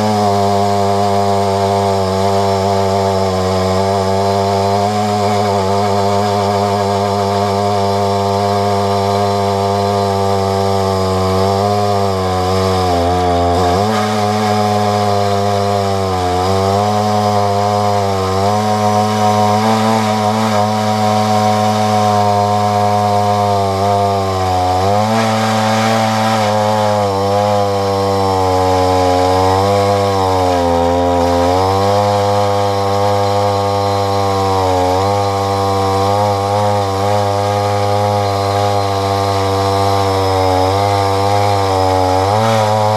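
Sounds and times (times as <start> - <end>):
chainsaw cutting log at full throttle: 0.0 - 42.9.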